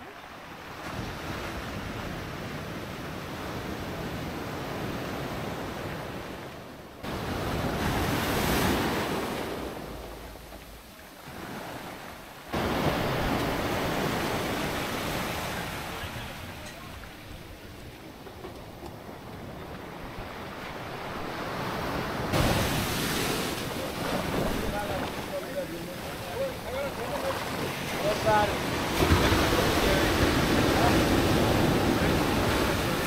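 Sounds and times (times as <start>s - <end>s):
surf breaking on beach: 0.0s - 18.0s, 18.9s - 33.0s.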